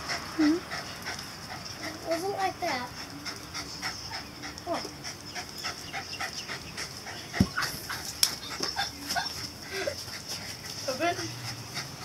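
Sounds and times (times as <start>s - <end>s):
rapid rhythmic panting: 0.0s - 12.0s.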